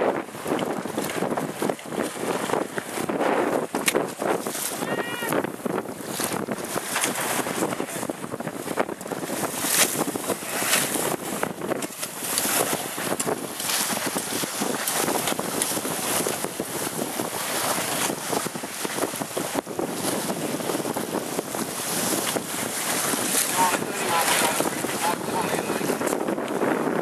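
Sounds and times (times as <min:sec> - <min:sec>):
choppy sea water slapping: 0:00.0 - 0:27.0
wind buffeting microphone: 0:00.0 - 0:27.0.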